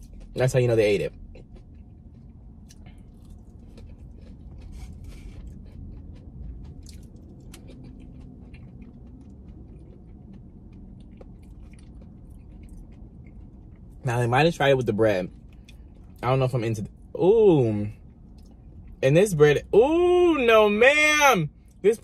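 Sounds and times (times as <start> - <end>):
chewing crunchy food: 0.0 - 19.7
low steady hum: 0.0 - 22.0.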